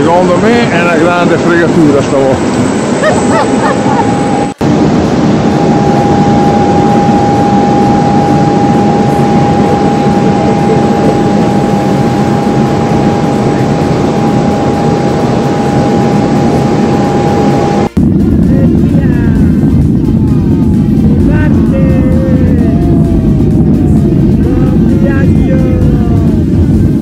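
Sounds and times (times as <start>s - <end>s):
jet turbine rush and whine: 0.0s - 27.0s.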